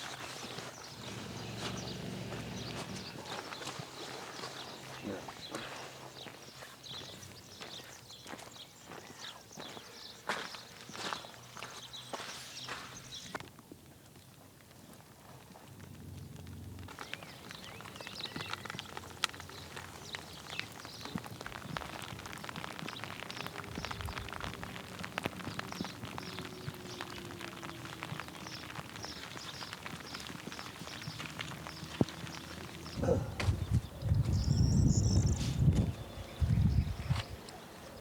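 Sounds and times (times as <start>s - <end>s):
footsteps on stony trail: 0.0s - 13.9s, 16.9s - 38.0s.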